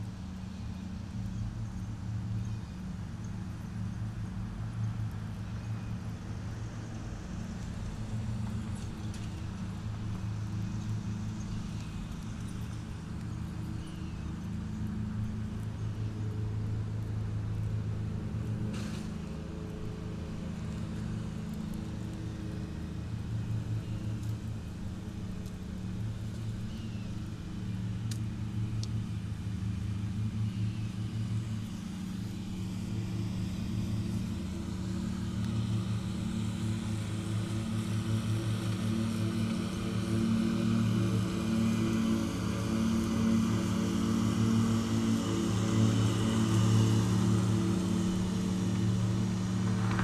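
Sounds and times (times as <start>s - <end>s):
riding lawn mower engines: 0.0s - 50.0s.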